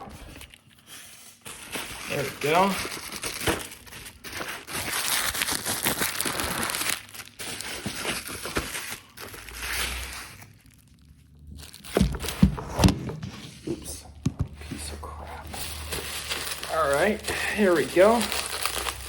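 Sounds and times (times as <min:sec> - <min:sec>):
packaging tearing and crinkling: 0:00.1 - 0:12.5, 0:15.4 - 0:19.0.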